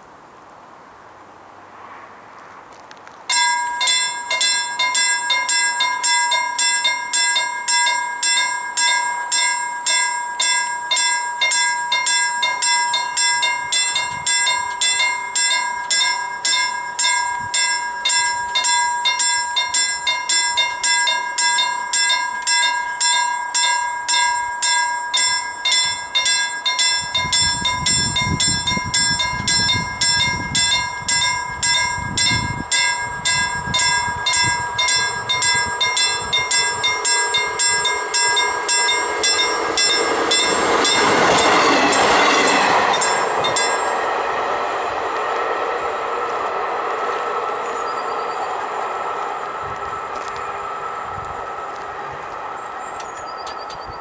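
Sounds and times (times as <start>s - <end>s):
level crossing warning bell: 3.3s - 54.0s.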